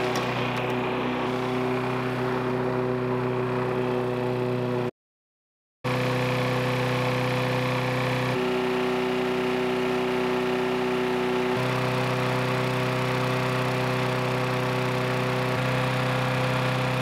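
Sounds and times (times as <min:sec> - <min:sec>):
lawn mower engine running: 0:00.0 - 0:04.9, 0:05.9 - 0:17.0.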